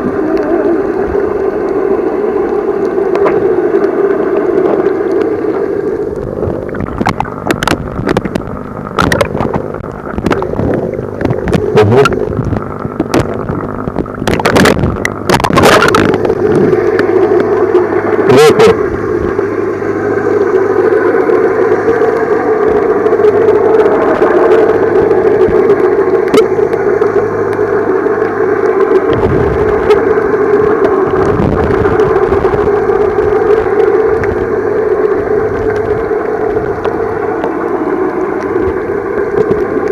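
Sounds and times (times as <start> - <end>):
muffled underwater hum: 0.0 - 39.9
water splashes: 0.0 - 39.9.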